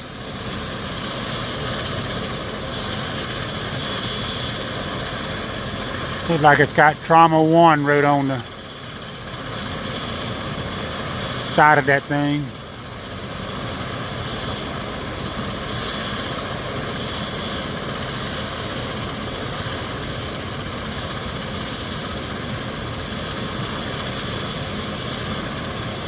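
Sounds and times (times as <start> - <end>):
helicopter turbine and rotor: 0.0 - 26.0
high turbine whine: 0.0 - 26.0.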